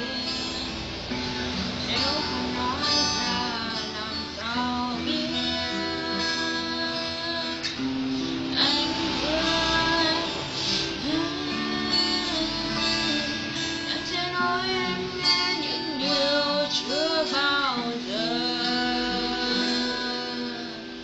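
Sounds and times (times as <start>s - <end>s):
guitar accompaniment: 0.0s - 21.0s
woman singing a slow song: 0.0s - 21.0s.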